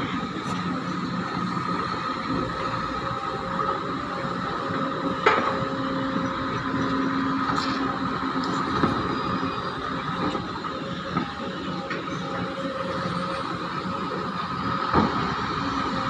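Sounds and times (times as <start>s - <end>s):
excavator engine drone: 0.0s - 16.0s.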